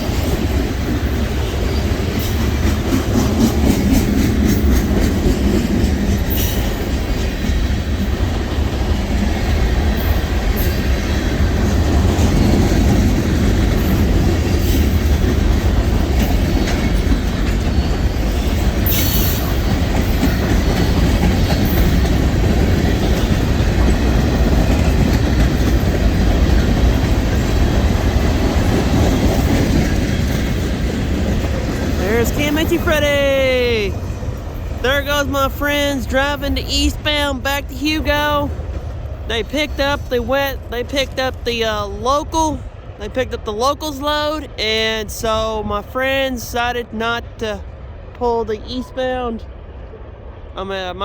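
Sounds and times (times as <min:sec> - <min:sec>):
wheels clacking over rail joints: 0:00.0 - 0:45.4
freight train wheels rumbling on rail: 0:00.0 - 0:51.0.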